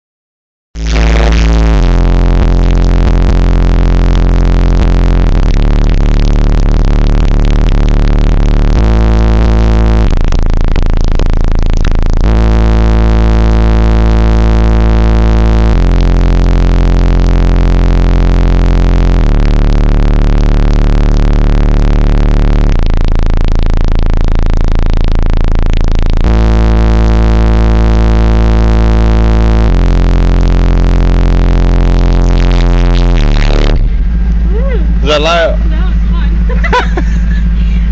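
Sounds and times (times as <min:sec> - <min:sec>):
distorted bass-heavy music: 0:00.8 - 0:37.9.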